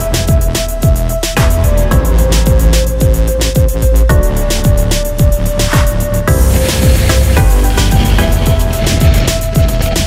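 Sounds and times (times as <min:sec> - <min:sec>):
electronic music with kick drums: 0:00.0 - 0:10.0.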